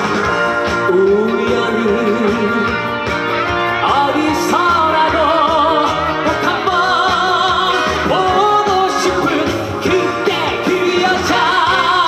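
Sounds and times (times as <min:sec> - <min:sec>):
live band backing: 0:00.0 - 0:12.0
singing with vibrato: 0:00.7 - 0:12.0.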